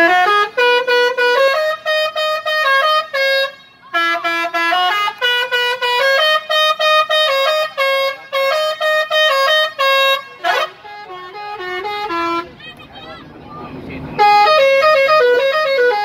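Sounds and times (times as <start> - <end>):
air horn playing tune: 0.0 - 13.1, 14.2 - 16.0.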